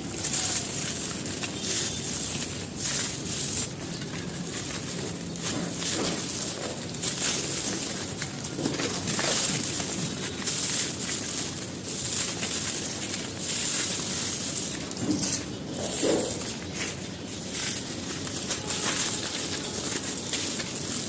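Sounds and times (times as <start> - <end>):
gritty material crushed by hand: 0.0 - 21.0.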